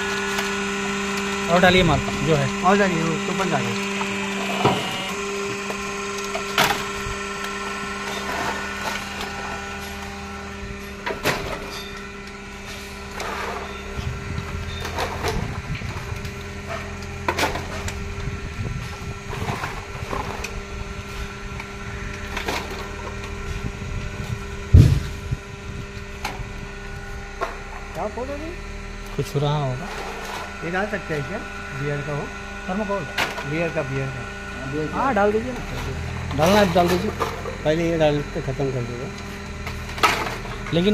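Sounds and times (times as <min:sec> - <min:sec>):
hydraulic power pack humming: 0:00.0 - 0:40.9.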